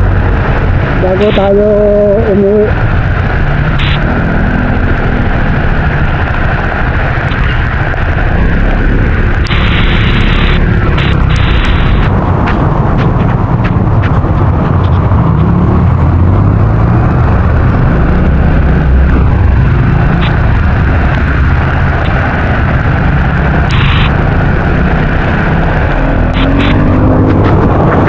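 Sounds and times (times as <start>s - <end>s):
wind and rain on microphone: 0.0s - 28.0s.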